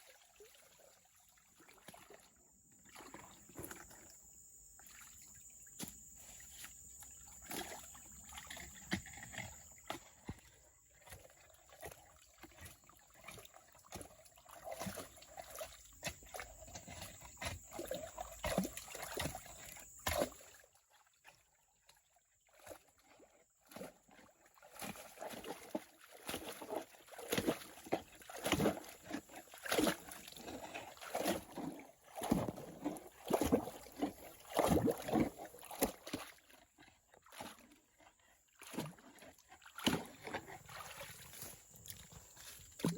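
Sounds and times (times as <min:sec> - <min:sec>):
water sloshing and splashing: 0:00.0 - 0:42.9.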